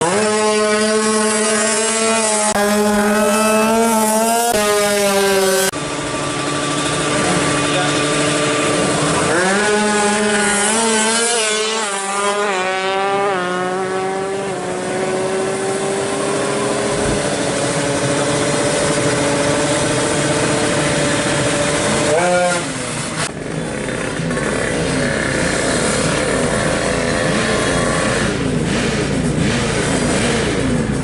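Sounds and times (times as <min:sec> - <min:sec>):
motorcycle engine revving hard: 0:00.0 - 0:31.0.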